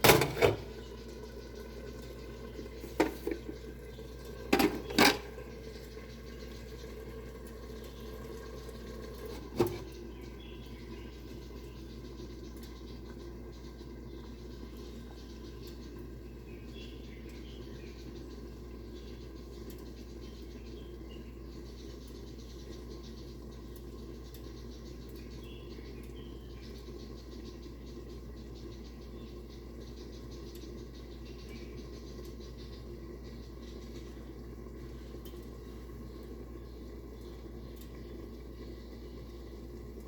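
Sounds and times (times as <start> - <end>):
pot simmering with low hiss: 0.0 - 40.0.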